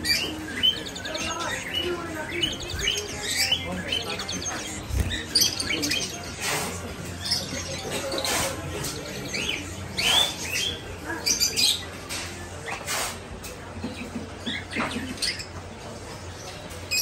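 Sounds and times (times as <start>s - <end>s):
flock of finches chirping: 0.0s - 17.0s.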